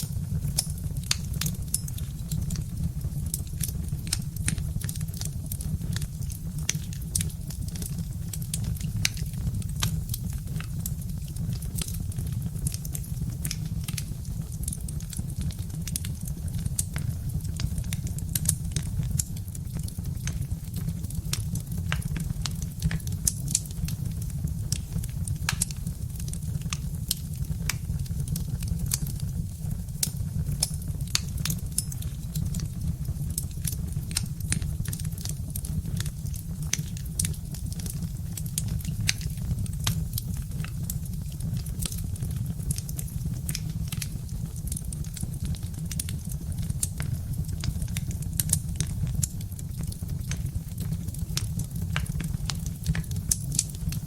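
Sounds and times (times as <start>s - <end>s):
fire low rumble: 0.0s - 54.0s
wood fire crackling: 0.0s - 54.0s.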